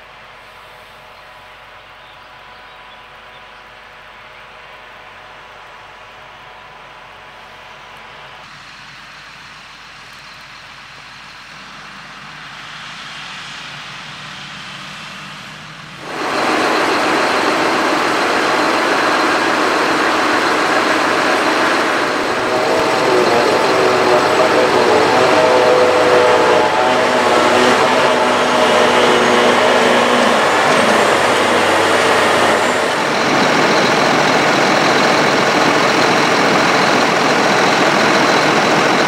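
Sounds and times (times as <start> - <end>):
tractor diesel engines: 0.0 - 39.0.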